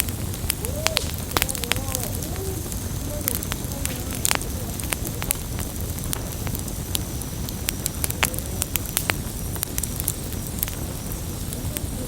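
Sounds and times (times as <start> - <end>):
burning wood crackling: 0.0 - 12.0
campfire flame rushing: 0.0 - 12.0.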